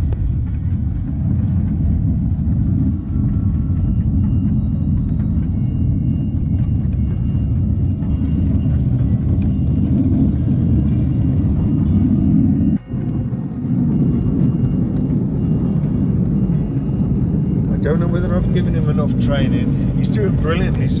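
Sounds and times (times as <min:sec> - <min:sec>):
miniature train rumbling on track: 0:00.0 - 0:21.0.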